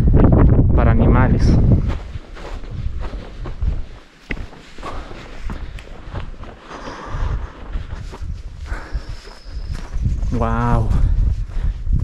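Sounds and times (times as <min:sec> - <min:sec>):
footsteps on stony ground: 0:01.2 - 0:12.0.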